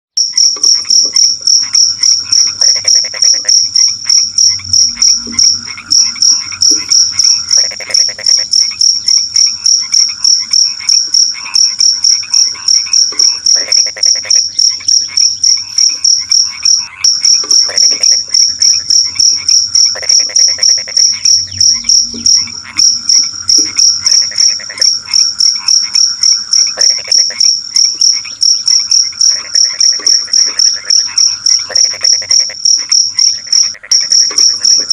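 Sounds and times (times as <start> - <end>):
cricket chirping: 0.2 - 34.9
frogs croaking: 0.2 - 34.9.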